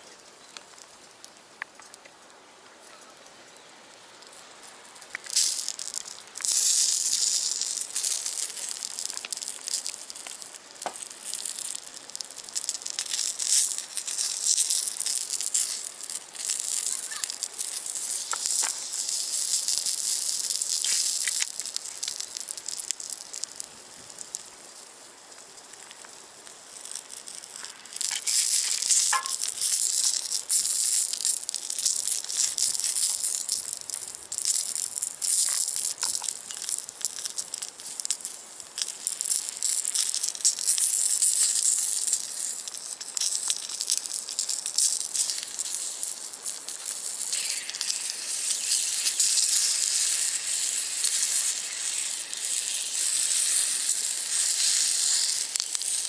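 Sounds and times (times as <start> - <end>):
steady hiss: 0.0 - 56.0
food sizzling in a skillet: 3.9 - 56.0.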